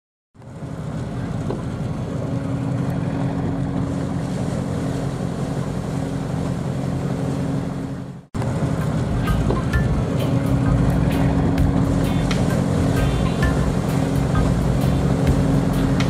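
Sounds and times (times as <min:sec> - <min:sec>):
low engine hum: 0:00.4 - 0:16.0
wind and water rushing: 0:00.4 - 0:16.0.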